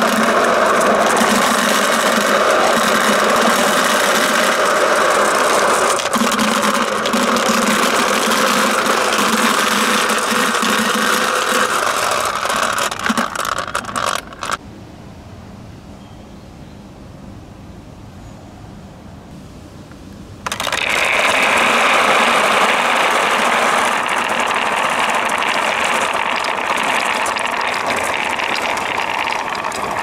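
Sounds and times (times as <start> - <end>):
marbles clattering into a bucket: 0.0 - 14.6, 20.4 - 30.0.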